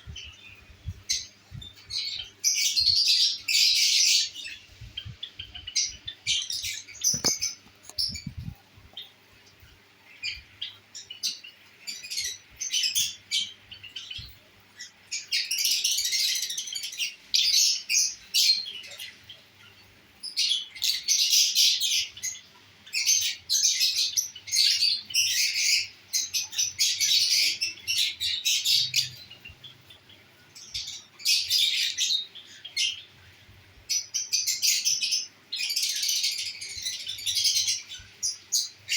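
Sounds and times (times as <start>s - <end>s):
lovebirds chirping and squawking: 0.0s - 38.9s.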